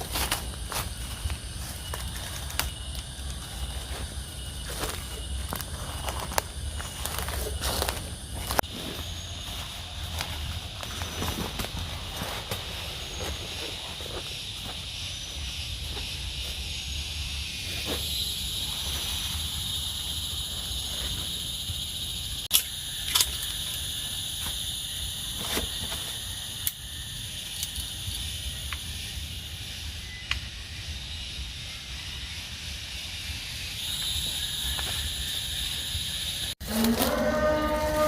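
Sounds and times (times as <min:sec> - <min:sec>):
night insects chorus: 0:00.0 - 0:38.0.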